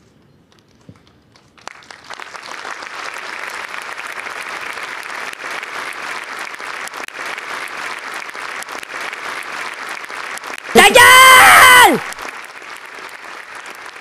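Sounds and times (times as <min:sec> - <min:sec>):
crowd applauding: 0:01.0 - 0:14.0.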